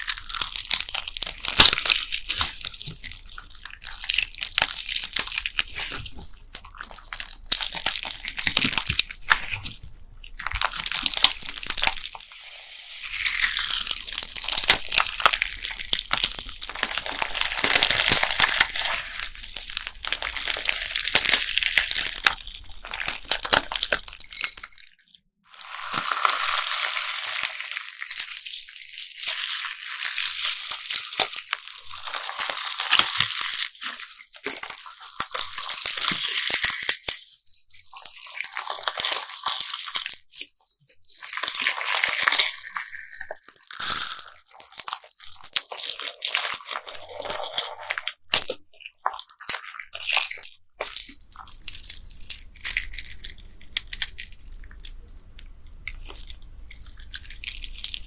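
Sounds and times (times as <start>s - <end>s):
bead slime crackling: 0.0s - 24.6s, 25.8s - 58.0s.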